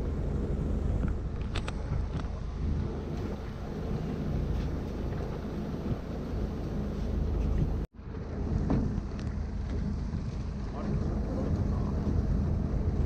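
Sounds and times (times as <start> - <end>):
low rumble on water: 0.0 - 13.0
wind buffeting microphone: 0.0 - 13.0.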